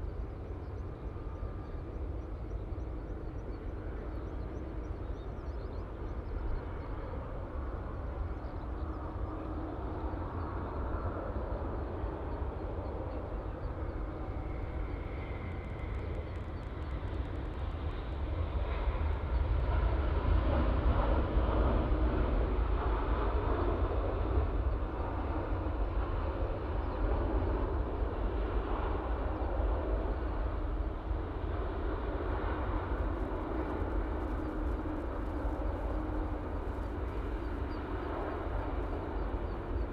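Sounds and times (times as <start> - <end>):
jet airliner engine rumble: 0.0 - 39.9.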